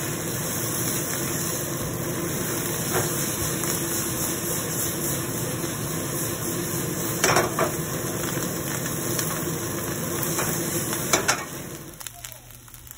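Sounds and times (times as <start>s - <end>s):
rice sizzling in a wok: 0.0s - 12.9s.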